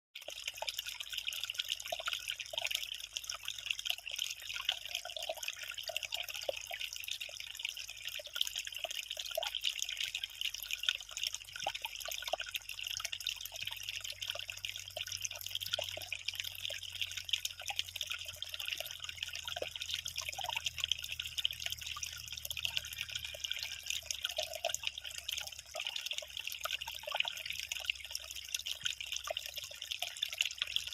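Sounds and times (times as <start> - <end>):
water trickling: 0.2 - 30.9.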